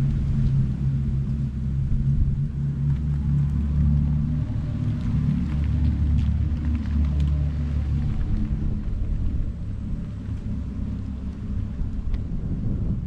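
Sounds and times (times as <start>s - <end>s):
electric car humming: 0.0s - 13.0s.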